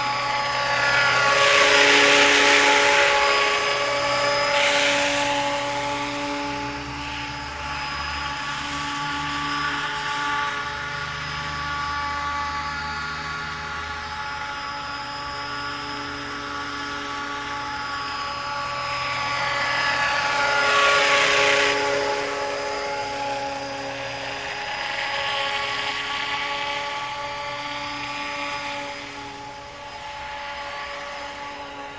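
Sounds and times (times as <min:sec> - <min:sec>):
model helicopter rotor whine: 0:00.0 - 0:31.9.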